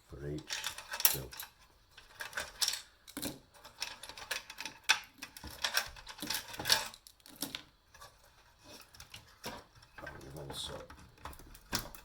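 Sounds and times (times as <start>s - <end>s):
small hard parts clattering: 0.2s - 12.0s.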